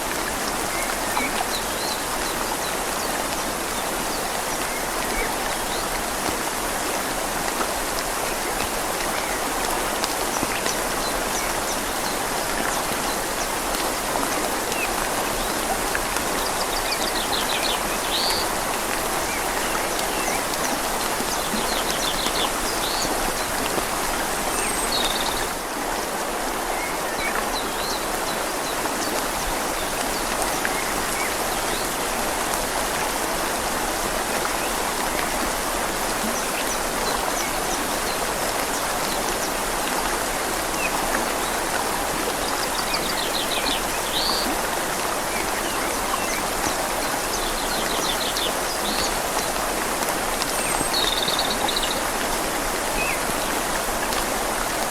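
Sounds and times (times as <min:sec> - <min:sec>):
flowing river: 0:00.0 - 0:54.9
rain falling on leaves: 0:00.0 - 0:54.9.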